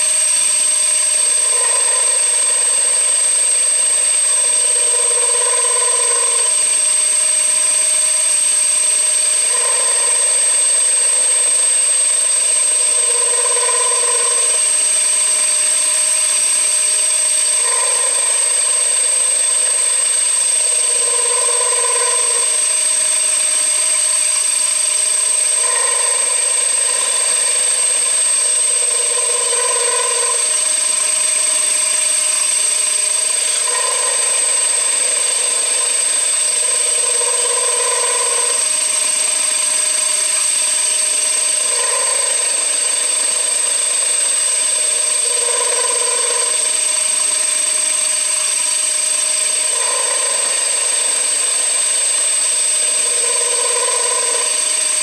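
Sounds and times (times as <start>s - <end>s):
cnc machine high whine: 0.0s - 55.0s.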